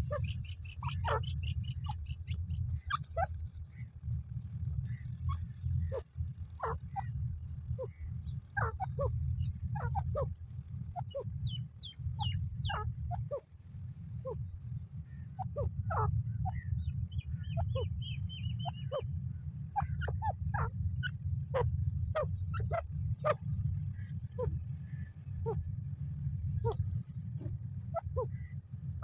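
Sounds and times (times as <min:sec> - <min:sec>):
francolin calling: 0:00.0 - 0:04.0, 0:04.8 - 0:07.2, 0:07.8 - 0:25.6, 0:26.6 - 0:28.6
low rumble: 0:00.0 - 0:29.0.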